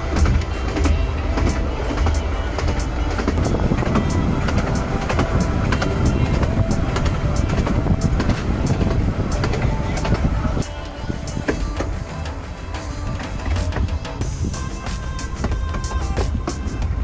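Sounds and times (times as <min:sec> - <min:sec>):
train rumbling: 0:00.0 - 0:17.0
wheels clicking on rails: 0:00.0 - 0:17.0.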